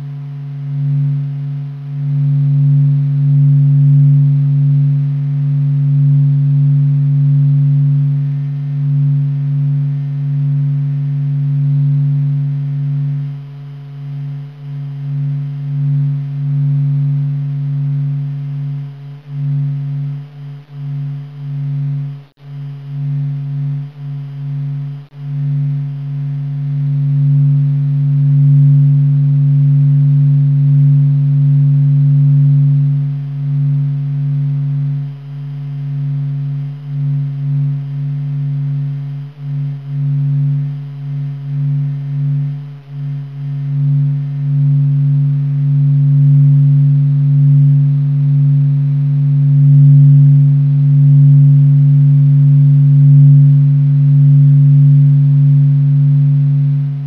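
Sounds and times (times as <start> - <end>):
faint higher tone: 0.0 - 57.0
low droning hum: 0.0 - 57.0.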